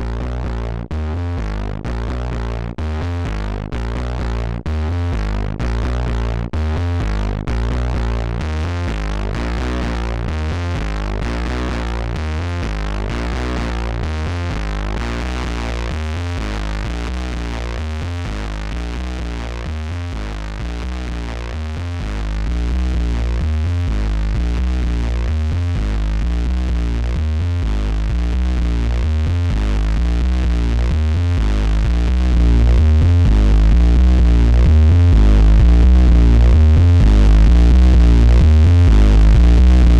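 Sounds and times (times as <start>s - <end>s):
distorted synth bass line: 0.0s - 39.9s.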